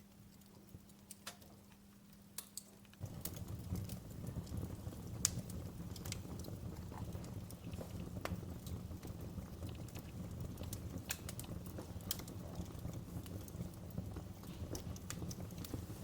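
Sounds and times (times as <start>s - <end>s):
wood fire crackling and popping: 0.0s - 16.0s
low rushing flame rumble: 3.0s - 16.0s.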